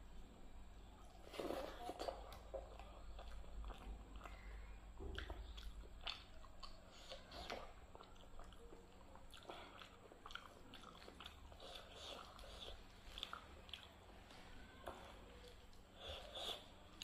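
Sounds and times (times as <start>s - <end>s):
chewing and mouth smacking: 1.0s - 17.0s
fingers squishing wet food: 1.7s - 17.0s.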